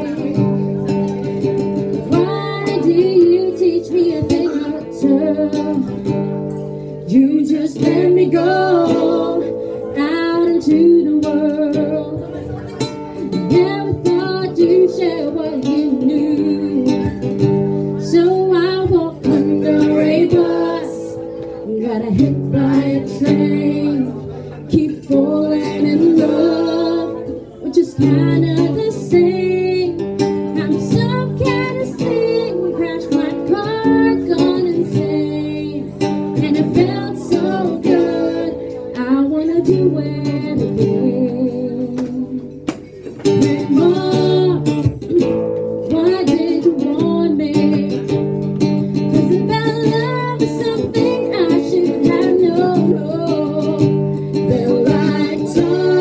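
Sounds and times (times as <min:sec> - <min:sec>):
woman singing: 0:00.0 - 0:00.9, 0:01.5 - 0:06.1, 0:07.0 - 0:12.6, 0:13.2 - 0:56.0
acoustic guitar strumming: 0:00.0 - 0:56.0.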